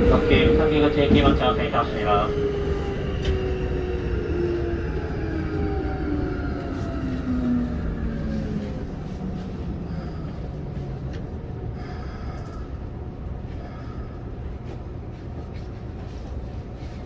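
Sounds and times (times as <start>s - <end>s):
low train rumble: 0.0s - 17.0s.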